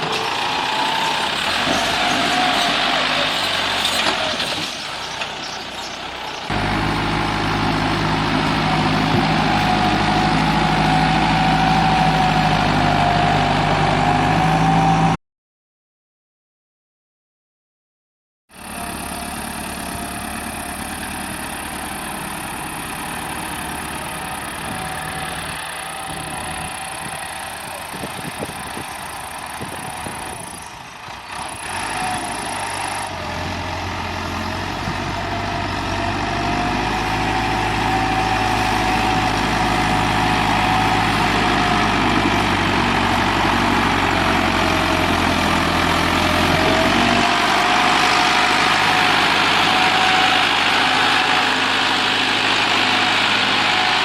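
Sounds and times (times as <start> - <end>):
tractor diesel engine running: 0.0 - 15.2, 18.5 - 54.0.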